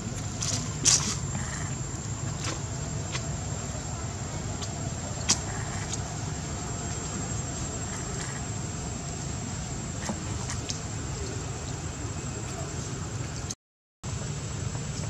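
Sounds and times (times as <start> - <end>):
thin high steady whine: 0.0 - 15.0.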